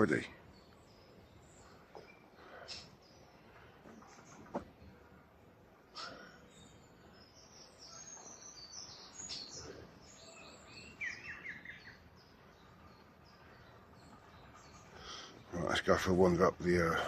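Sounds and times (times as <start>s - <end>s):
faint background noise: 0.0s - 17.0s
small songbirds chirping: 0.0s - 17.0s.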